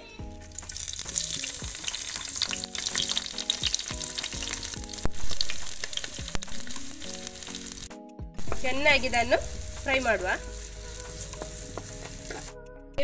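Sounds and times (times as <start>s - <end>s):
vegetables sizzling in hot oil: 0.4s - 7.9s, 8.5s - 12.5s.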